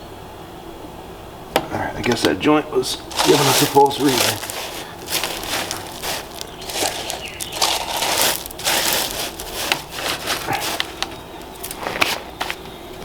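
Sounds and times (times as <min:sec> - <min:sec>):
gravel crunching and scraping: 0:02.1 - 0:13.0.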